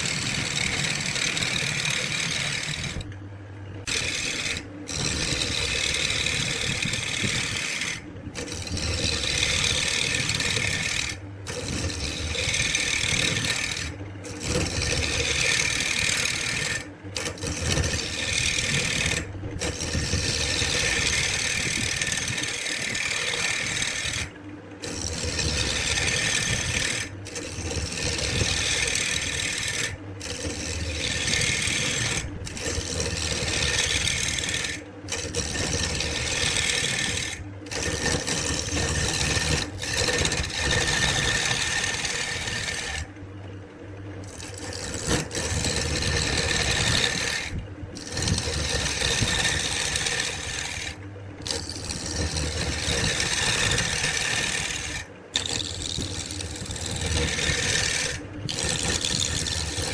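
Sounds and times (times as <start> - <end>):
abrasive tool scraping wood: 0.0 - 3.2, 3.8 - 43.2, 44.2 - 59.9.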